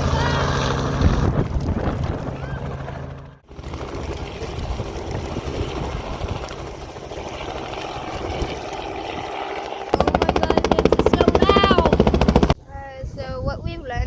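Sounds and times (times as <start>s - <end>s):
helicopter engine and rotor drone: 0.0s - 12.6s
rotor blades chopping: 0.0s - 12.6s.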